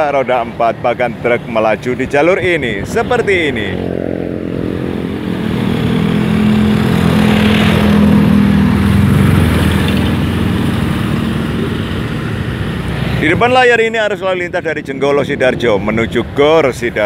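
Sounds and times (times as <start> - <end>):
motorcycles passing: 0.0 - 17.0
truck passing: 0.0 - 17.0.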